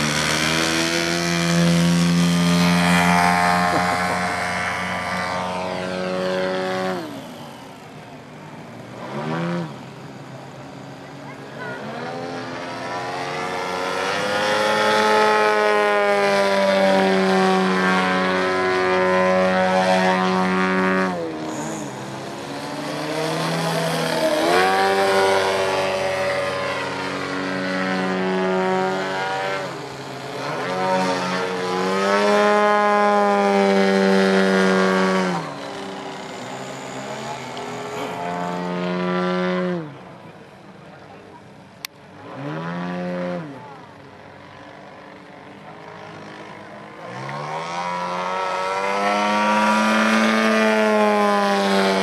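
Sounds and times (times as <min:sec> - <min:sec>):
model plane engine and propeller: 0:00.0 - 0:52.0.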